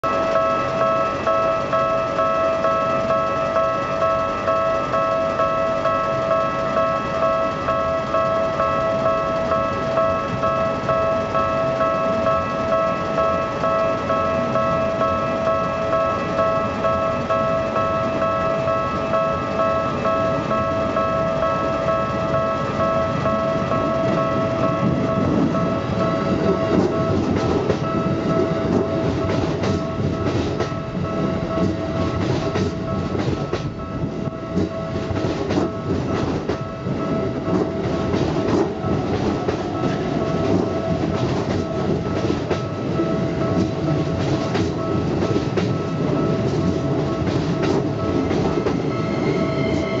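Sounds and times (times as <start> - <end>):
electric train rumbling past: 0.0 - 50.0
level crossing warning bell: 0.0 - 50.0
second train passing: 0.0 - 50.0
wheel clacks over rail joints: 0.1 - 48.9.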